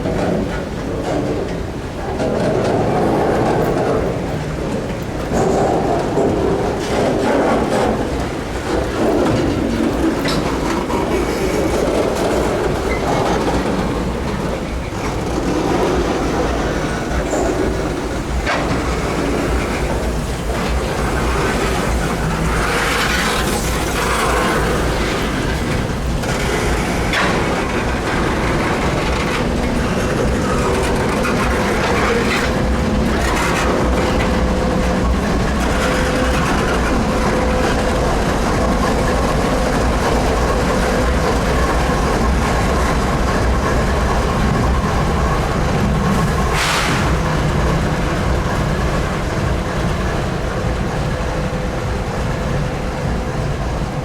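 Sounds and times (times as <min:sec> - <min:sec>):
train cars knocking: 0:00.0 - 0:54.0
train wheels rumbling on rail: 0:00.0 - 0:54.0.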